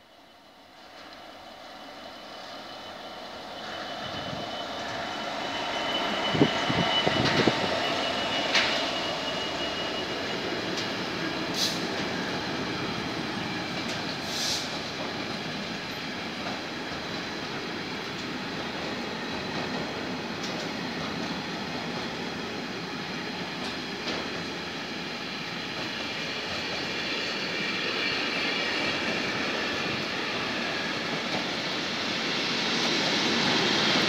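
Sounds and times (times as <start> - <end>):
diesel locomotive passing: 0.1 - 34.0.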